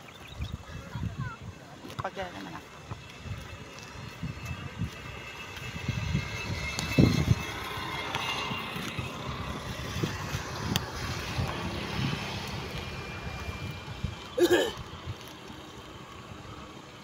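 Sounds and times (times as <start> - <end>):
wind buffeting microphone: 0.0 - 16.8
motorcycles passing: 0.0 - 17.0.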